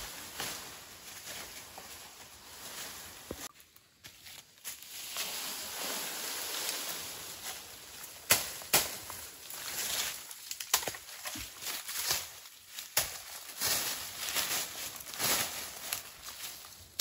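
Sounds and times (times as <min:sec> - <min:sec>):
pole dragged through leaves: 0:00.0 - 0:03.5, 0:04.6 - 0:08.2, 0:09.1 - 0:10.4, 0:11.4 - 0:17.0
dry leaves rustling underfoot: 0:00.0 - 0:17.0.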